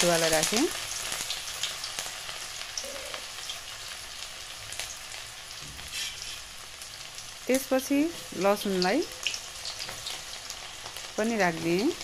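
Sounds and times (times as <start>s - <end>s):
ginger sizzling in hot oil: 0.0s - 12.0s.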